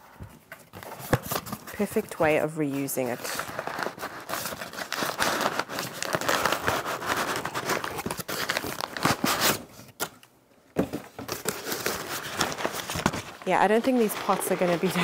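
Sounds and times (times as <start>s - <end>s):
paper crinkling and rustling: 0.0s - 10.2s, 10.9s - 15.0s.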